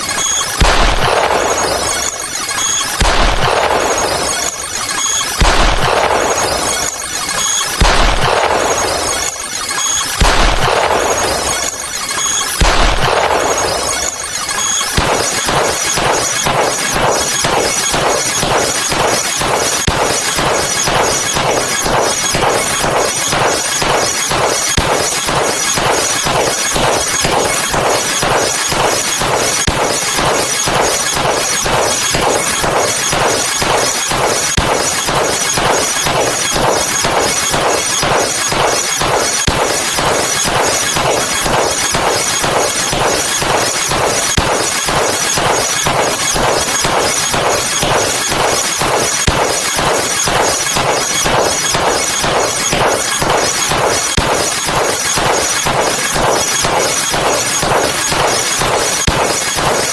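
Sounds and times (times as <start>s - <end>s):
noisy sound effect hits: 0.4s - 59.5s.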